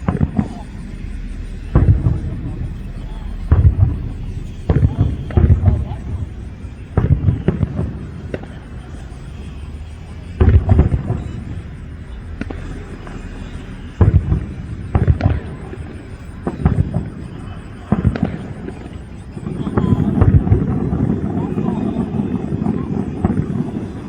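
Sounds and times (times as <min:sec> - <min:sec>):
firework crackle: 0:00.0 - 0:24.0
firework shells booming: 0:00.0 - 0:24.0.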